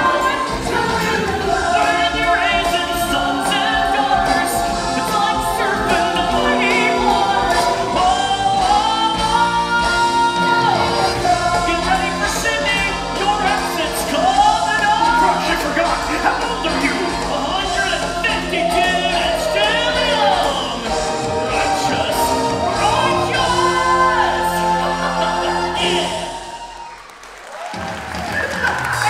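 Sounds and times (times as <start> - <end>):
musical accompaniment: 0.0 - 29.0
musical theatre singing: 0.0 - 29.0.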